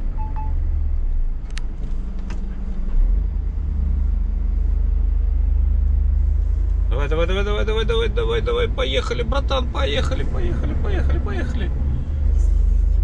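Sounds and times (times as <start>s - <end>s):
truck diesel engine rumble: 0.0s - 13.0s.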